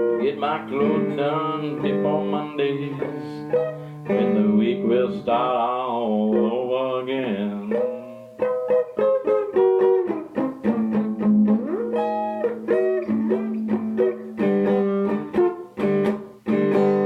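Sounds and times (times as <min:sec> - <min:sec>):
blues guitar playing: 0:00.0 - 0:17.0.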